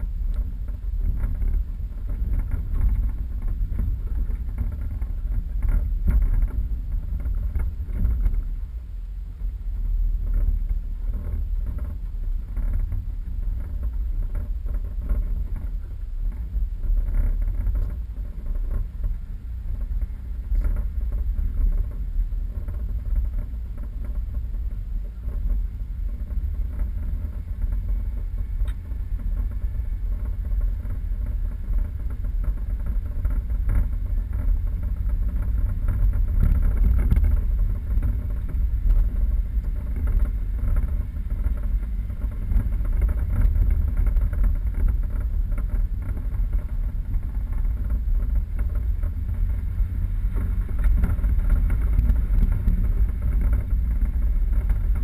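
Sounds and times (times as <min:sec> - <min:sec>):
vehicle driving off-road: 0:00.0 - 0:55.0.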